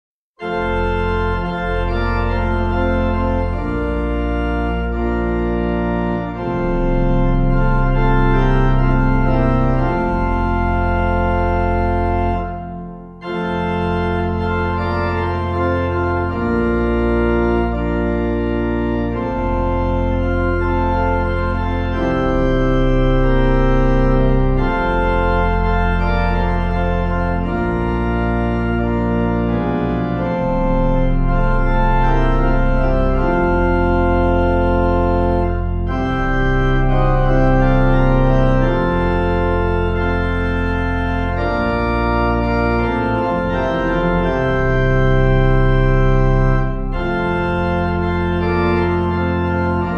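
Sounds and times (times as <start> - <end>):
organ playing sustained chords: 0.4 - 49.9.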